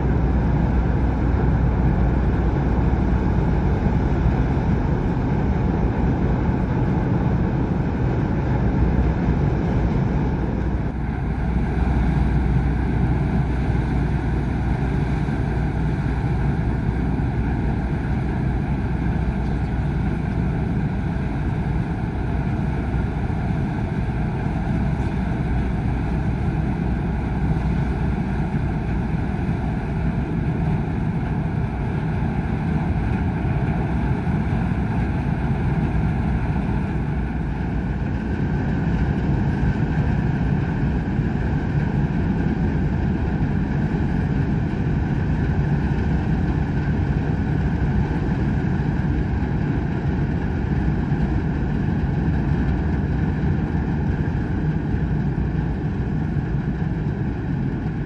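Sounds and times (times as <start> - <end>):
machinery hum: 0.0 - 58.0
ship engines deep rumble: 0.0 - 58.0.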